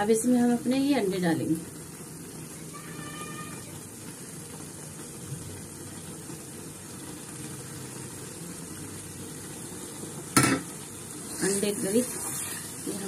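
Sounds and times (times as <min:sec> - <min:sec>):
gravy simmering in a pan: 0:00.0 - 0:13.0.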